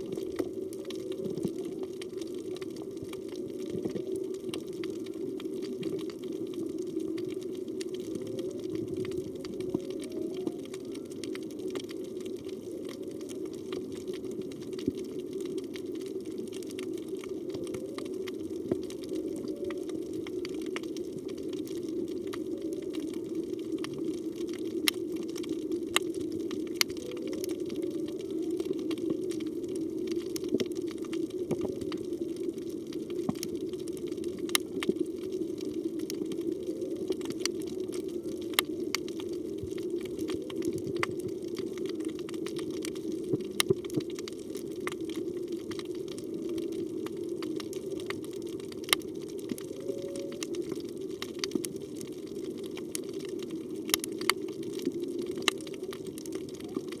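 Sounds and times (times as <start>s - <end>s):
underwater rush of water: 0.0s - 57.0s.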